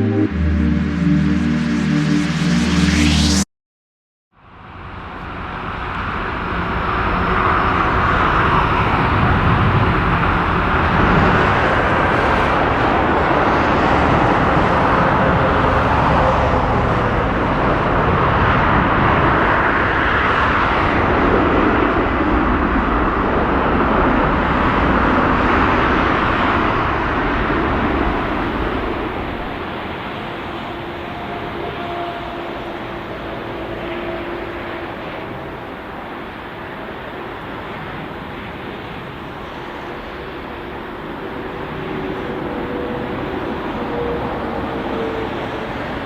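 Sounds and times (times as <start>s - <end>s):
jet airliner landing: 5.8s - 46.0s.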